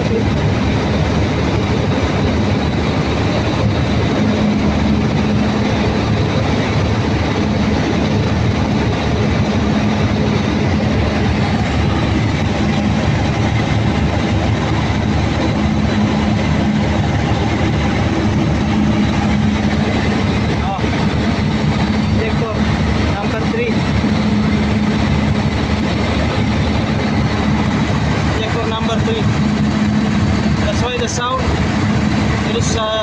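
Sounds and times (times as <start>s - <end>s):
diesel generator engine running: 0.0s - 33.0s.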